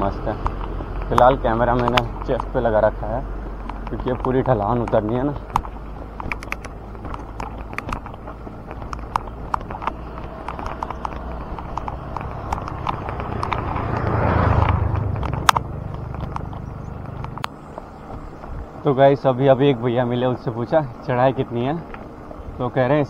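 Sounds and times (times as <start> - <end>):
bike clicks and rattles: 0.0 - 18.9
bicycle tyres and wind rumble: 0.0 - 23.0.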